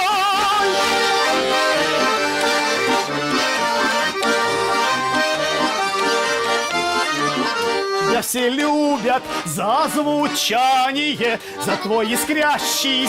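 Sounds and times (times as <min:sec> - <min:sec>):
accordion playing folk melody: 0:00.0 - 0:13.0.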